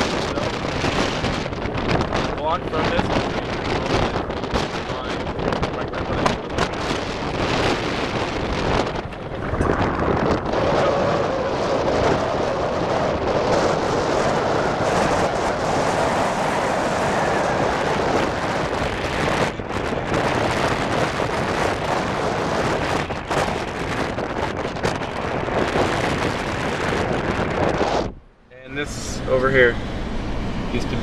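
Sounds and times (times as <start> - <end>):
car road noise: 0.0 - 31.0
wind on microphone: 0.0 - 31.0.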